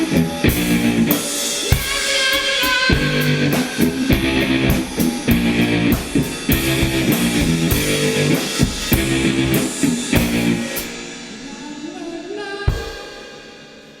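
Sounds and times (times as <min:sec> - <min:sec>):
rock band playing: 0:00.0 - 0:11.5.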